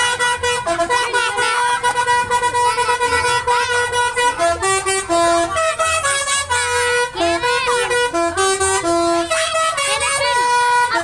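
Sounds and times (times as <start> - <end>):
bus musical horn tune: 0.0 - 11.0.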